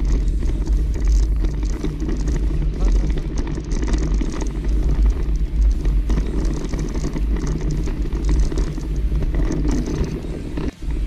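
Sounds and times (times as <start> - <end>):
tyre and road noise: 0.0 - 11.0
wind buffeting microphone: 0.0 - 11.0.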